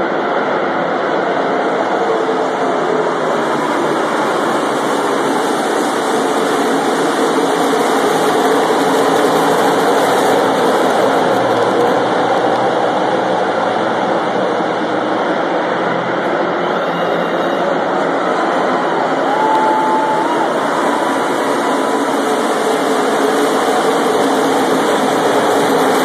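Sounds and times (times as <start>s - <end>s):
race cars engines roaring: 0.0s - 26.0s.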